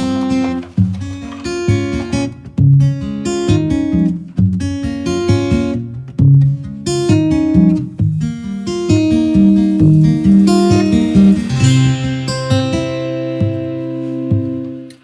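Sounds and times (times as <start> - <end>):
acoustic guitar plucked chords: 0.0 - 15.0.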